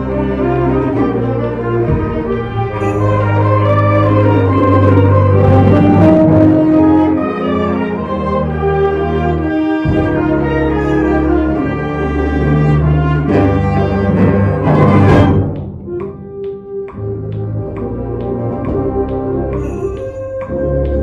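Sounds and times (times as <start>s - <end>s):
string bass line: 0.0s - 21.0s
wind band playing: 0.0s - 21.0s.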